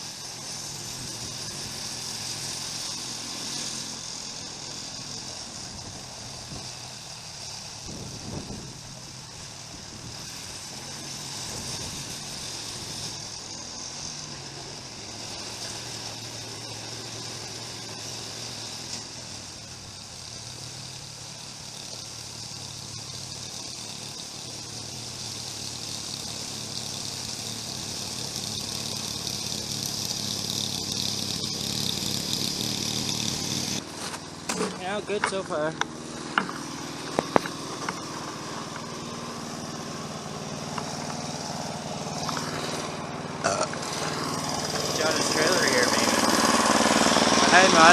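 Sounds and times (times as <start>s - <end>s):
snowblower engine running: 0.0s - 47.9s.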